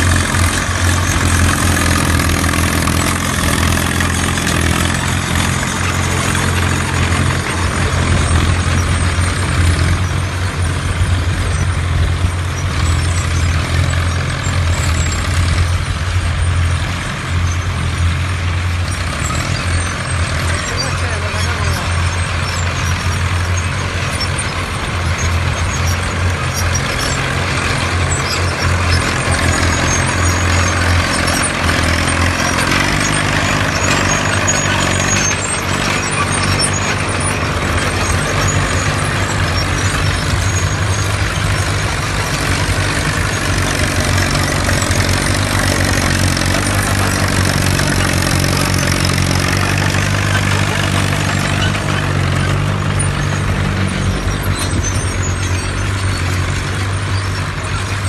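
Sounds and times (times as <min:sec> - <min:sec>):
diesel tractor engines under load: 0:00.0 - 0:58.0.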